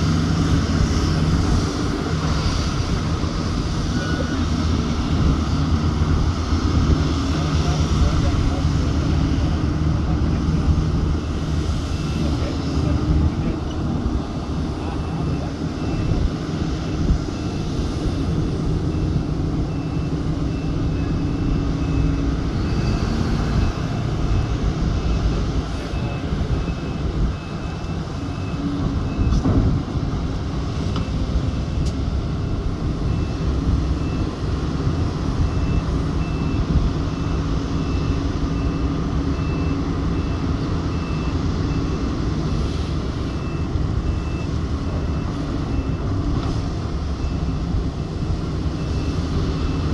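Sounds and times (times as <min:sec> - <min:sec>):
heavy diesel engines under load: 0:00.0 - 0:49.9.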